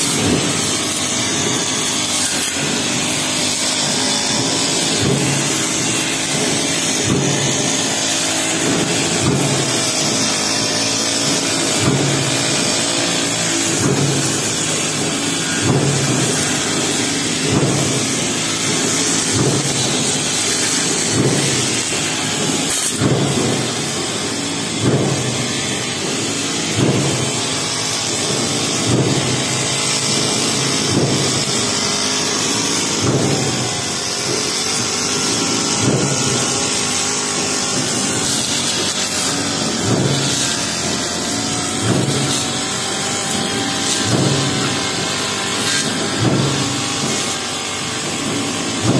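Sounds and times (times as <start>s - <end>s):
brush cutter engine surging: 0.0s - 48.9s.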